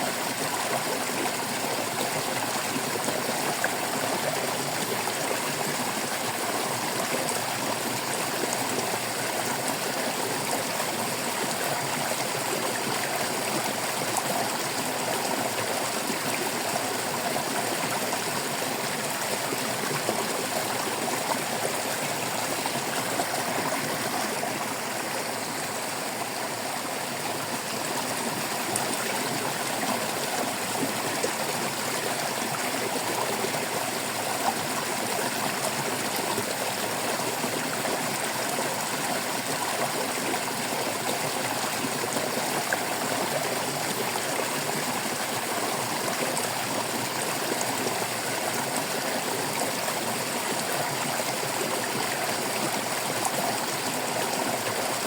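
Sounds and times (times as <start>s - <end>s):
stream babbling: 0.1s - 55.0s.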